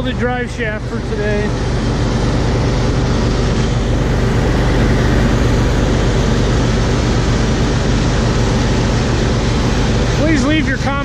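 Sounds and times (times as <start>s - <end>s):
combine harvester engine drone: 0.0s - 11.0s
harvesting machinery noise: 0.0s - 11.0s.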